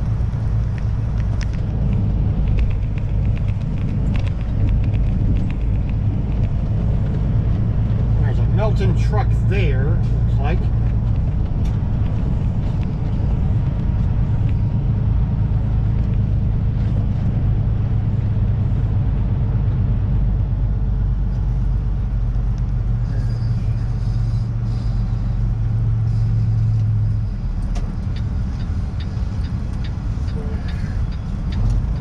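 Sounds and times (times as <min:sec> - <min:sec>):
diesel truck engine droning: 0:00.0 - 0:32.0.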